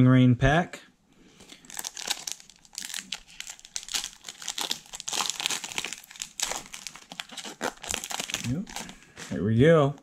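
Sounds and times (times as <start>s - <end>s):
foil wrapper crinkling: 1.4s - 9.4s.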